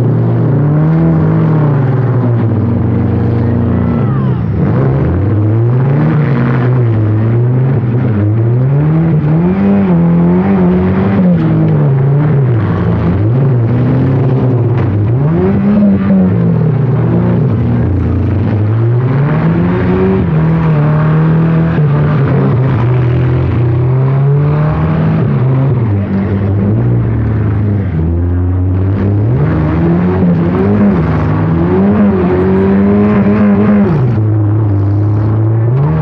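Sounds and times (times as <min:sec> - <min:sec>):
car engines revving hard: 0:00.0 - 0:36.0.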